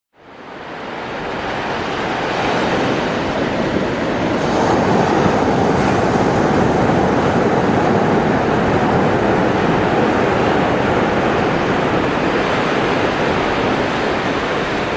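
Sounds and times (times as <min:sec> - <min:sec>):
ocean surf rushing: 0:00.2 - 0:14.9.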